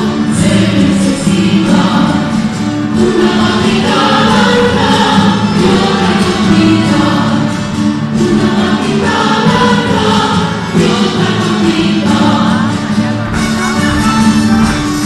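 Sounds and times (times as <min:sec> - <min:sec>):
folk dance song with singing: 0:00.0 - 0:15.0.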